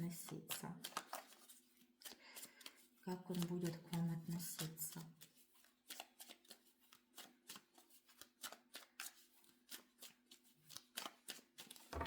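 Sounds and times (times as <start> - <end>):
cards being shuffled by hand: 0.1 - 12.0.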